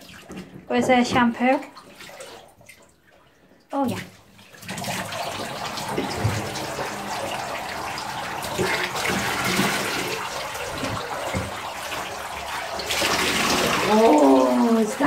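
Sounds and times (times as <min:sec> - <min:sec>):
water splashing in bathtub: 0:00.0 - 0:15.0.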